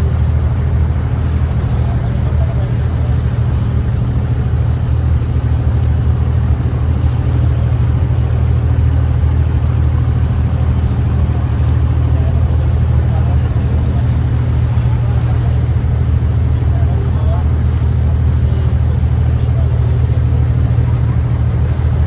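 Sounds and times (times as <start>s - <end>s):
boat diesel engine droning: 0.0s - 22.0s.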